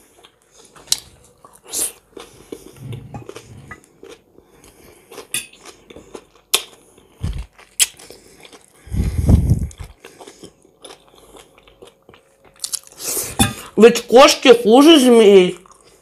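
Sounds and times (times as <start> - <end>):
chewing and crunching food: 0.0 - 13.8, 15.1 - 16.0.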